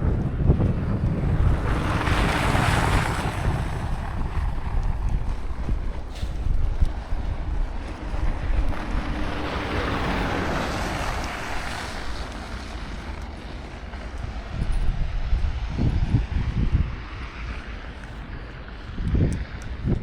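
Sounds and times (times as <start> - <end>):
rushing wind noise: 0.0 - 20.0
wind buffeting microphone: 0.0 - 20.0.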